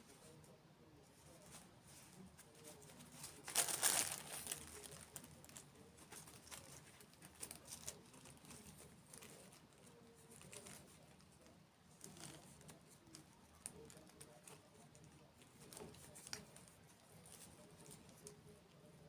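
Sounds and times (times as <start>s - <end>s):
crinkling and crackling: 1.2s - 19.0s.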